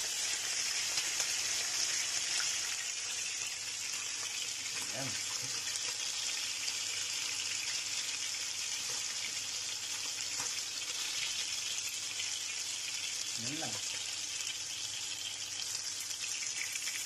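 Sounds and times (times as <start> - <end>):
fish sizzling in a frying pan: 0.0 - 17.0.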